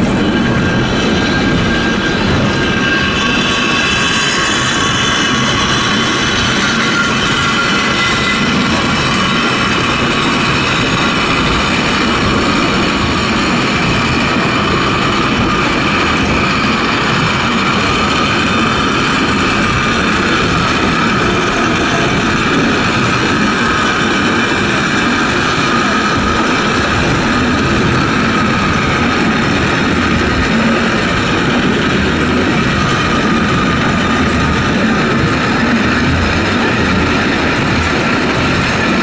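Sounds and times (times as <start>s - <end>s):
railway car rolling rumble: 0.0s - 39.0s.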